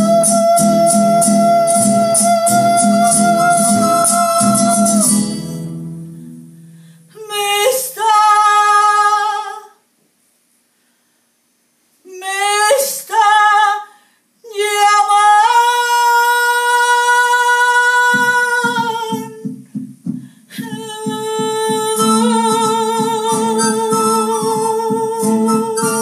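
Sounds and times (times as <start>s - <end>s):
woman singing: 0.0s - 5.6s, 7.1s - 9.8s, 12.1s - 19.5s, 20.5s - 26.0s.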